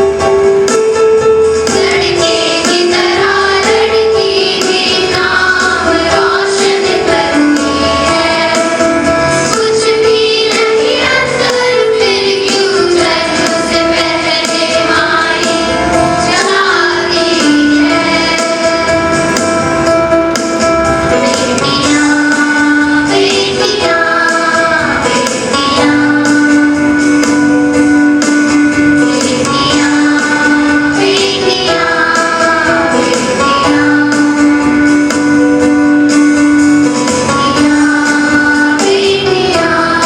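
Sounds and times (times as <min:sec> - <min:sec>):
keyboard accompaniment: 0:00.0 - 0:40.0.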